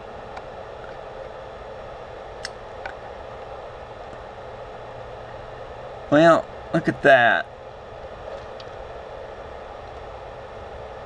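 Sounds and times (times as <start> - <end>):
low electronic hum: 0.0 - 11.0
steady background hiss: 0.0 - 11.0.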